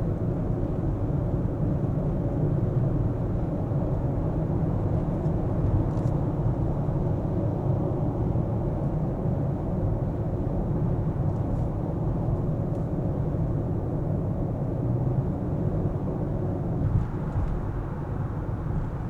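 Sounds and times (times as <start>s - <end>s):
car tyres and engine rumble: 0.0s - 19.0s.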